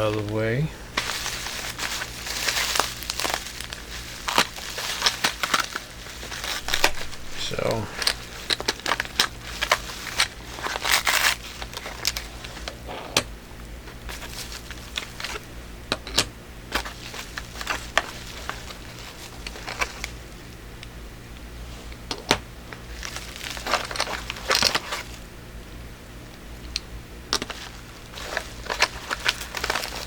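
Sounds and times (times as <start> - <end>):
packaging rustling and crinkling: 0.0 - 12.8, 13.9 - 15.5, 16.7 - 20.6, 21.9 - 25.3, 27.3 - 30.0.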